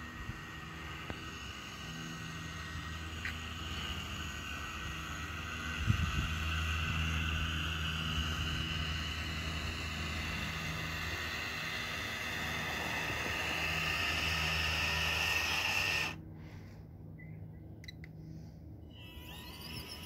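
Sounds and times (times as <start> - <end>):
toy electric motor whining: 0.0 - 16.2, 18.8 - 20.0.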